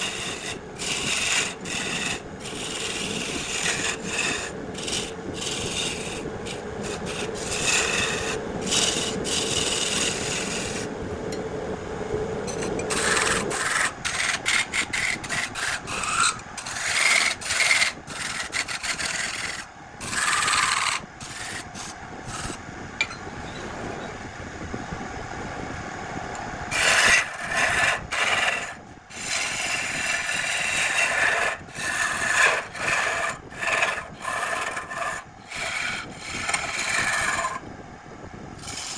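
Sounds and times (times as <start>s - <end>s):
turning tool scraping wood: 0.0s - 10.9s, 12.5s - 22.6s, 26.7s - 37.6s, 38.6s - 38.9s
lathe hum: 0.0s - 11.0s, 12.1s - 23.2s, 26.3s - 38.0s, 38.6s - 38.9s.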